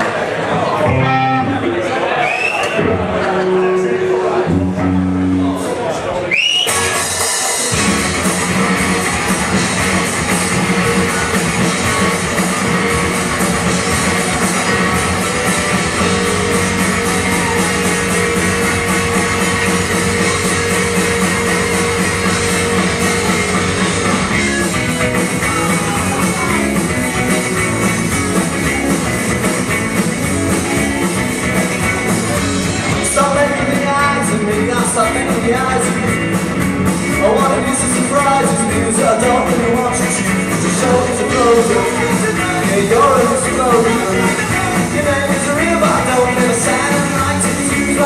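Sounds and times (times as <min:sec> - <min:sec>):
electric guitars: 0:00.0 - 0:48.0
drum kit: 0:04.5 - 0:48.0.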